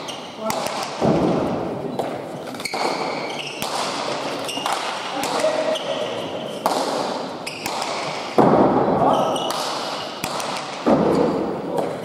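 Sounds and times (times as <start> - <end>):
ball smacking wall and floor: 0.4 - 5.6, 6.6 - 12.0.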